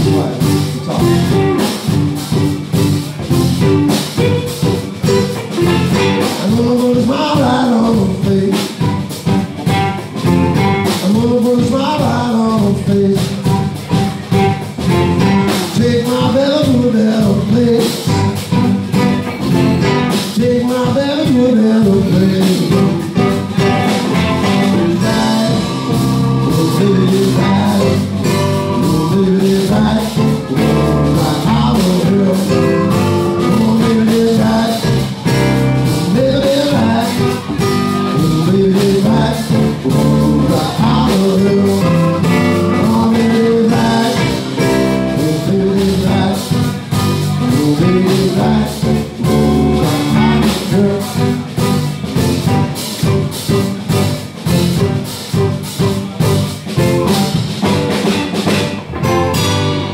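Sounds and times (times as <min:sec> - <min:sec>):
man singing: 0:00.0 - 0:58.6
drum kit: 0:00.0 - 0:59.9
electric guitar: 0:00.0 - 0:59.9
electric keyboard: 0:00.0 - 0:59.9.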